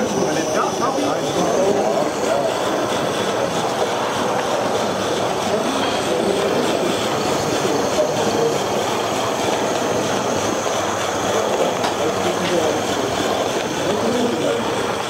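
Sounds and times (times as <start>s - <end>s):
model steam locomotive hissing: 0.0s - 15.0s.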